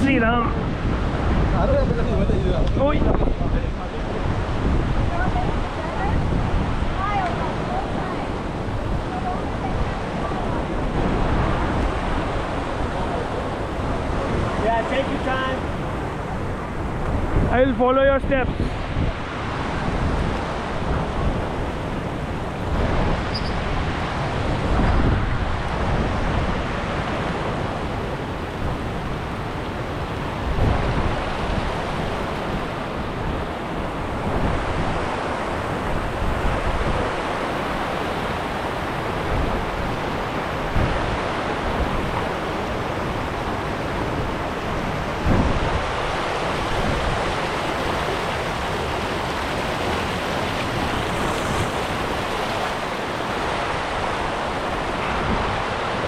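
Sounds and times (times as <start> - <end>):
river rushing over rapids: 0.0 - 56.0
wind buffeting microphone: 0.0 - 56.0.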